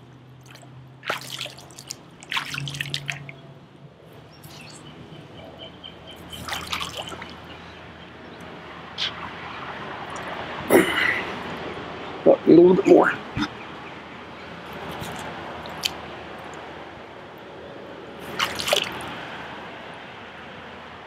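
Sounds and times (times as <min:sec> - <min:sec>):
pool water splashing and dripping: 0:00.0 - 0:21.0.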